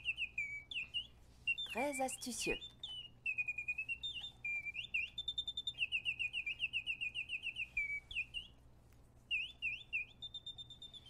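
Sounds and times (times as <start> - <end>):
mechanical bird whistling: 0.0 - 8.6, 9.3 - 11.0.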